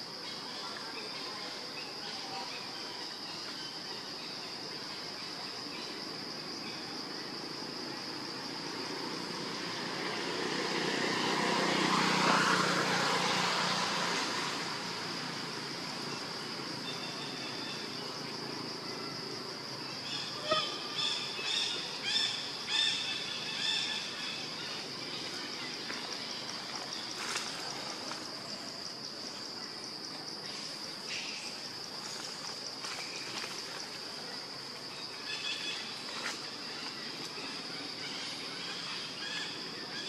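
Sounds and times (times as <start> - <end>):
broad rush of noise: 0.0 - 40.0.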